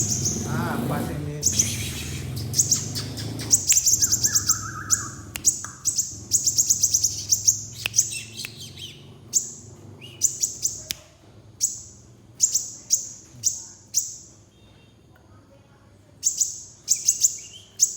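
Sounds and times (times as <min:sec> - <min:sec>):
sunbird chirping: 0:00.0 - 0:10.9, 0:11.6 - 0:14.4, 0:16.2 - 0:17.9.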